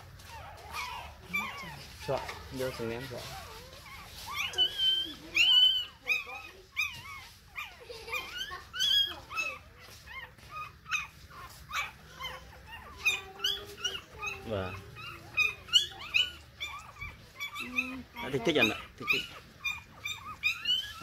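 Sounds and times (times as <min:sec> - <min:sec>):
puppies whimpering and squealing: 0:00.0 - 0:21.0.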